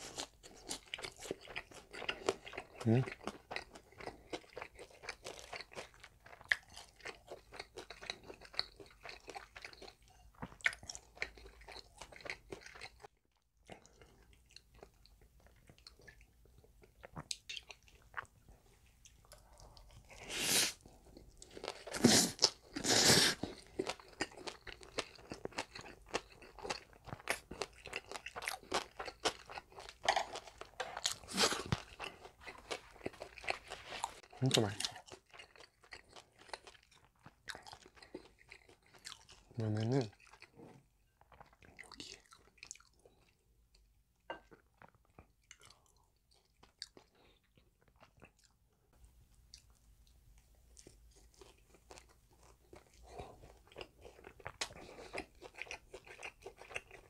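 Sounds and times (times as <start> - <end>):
chewing and crunching fried food: 0.0 - 57.0.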